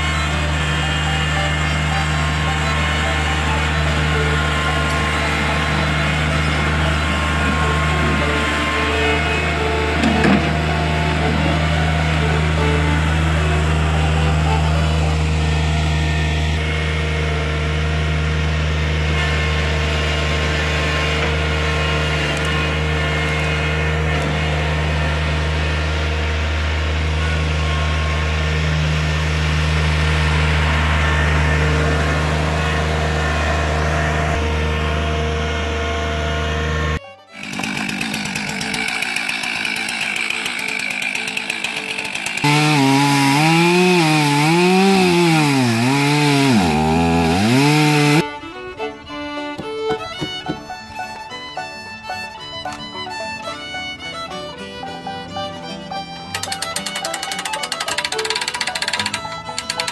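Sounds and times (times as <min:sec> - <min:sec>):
chainsaw cutting log: 0:00.0 - 0:48.3, 0:56.2 - 0:59.9
tractor engine running: 0:00.0 - 0:59.9.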